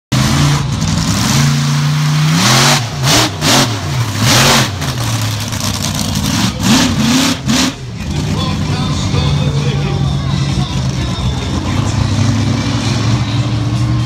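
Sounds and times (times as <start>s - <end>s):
monster truck engine revving: 0.1s - 14.0s.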